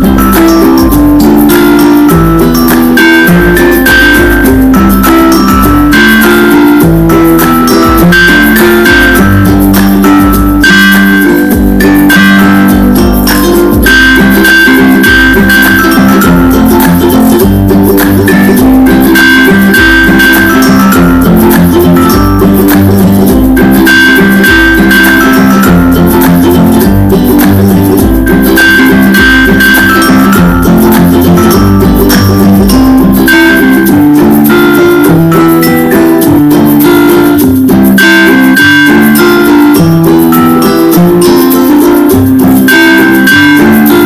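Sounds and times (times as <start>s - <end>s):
plucked guitar instrumental: 0.0s - 44.0s
steady bass pattern: 0.0s - 44.0s.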